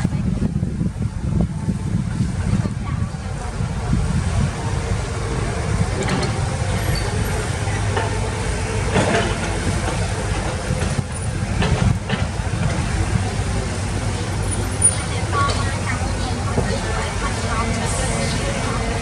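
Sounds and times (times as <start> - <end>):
diesel construction machinery running: 0.0 - 19.0.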